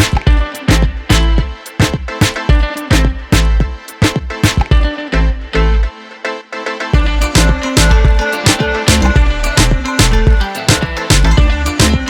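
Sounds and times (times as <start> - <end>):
music with heavy bass beat: 0.0 - 5.8, 7.0 - 12.0.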